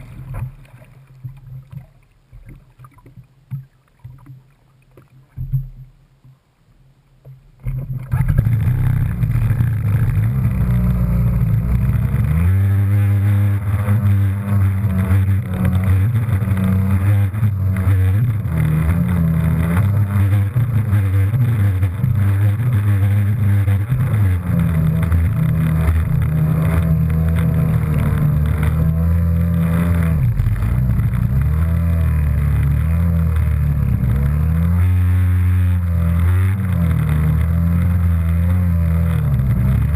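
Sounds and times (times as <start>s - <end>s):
jet ski engine: 0.0s - 2.1s, 7.5s - 39.9s.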